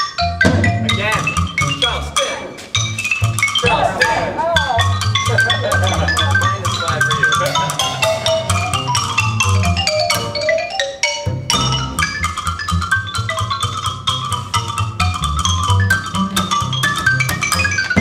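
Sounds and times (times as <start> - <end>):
plucked upright bass: 0.0 - 18.0
xylophone quick melody: 0.0 - 18.0
drum kit: 0.4 - 10.5, 13.4 - 18.0.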